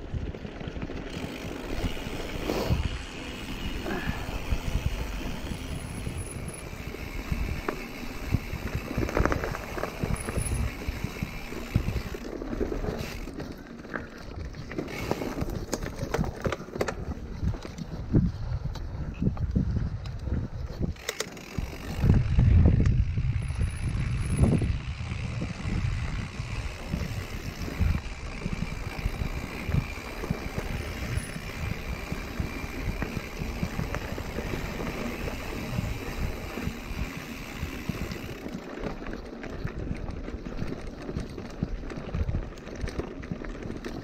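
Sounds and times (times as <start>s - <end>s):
wind buffeting microphone: 0.0s - 13.4s, 14.2s - 44.0s
bike tyres rolling on gravel: 0.0s - 44.0s
bike frame knocking and rattling: 0.7s - 44.0s.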